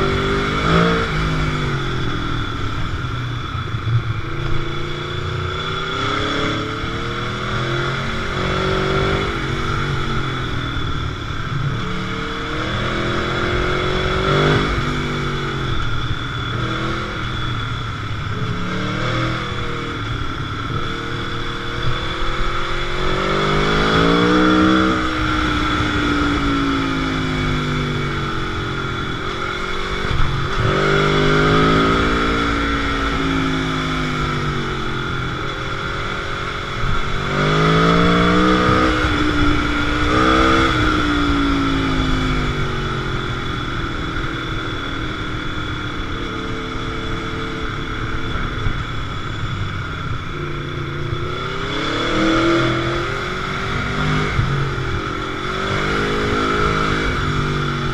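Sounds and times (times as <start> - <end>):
motorcycle engine revving: 0.0 - 57.9
steady rushing noise: 0.0 - 57.9.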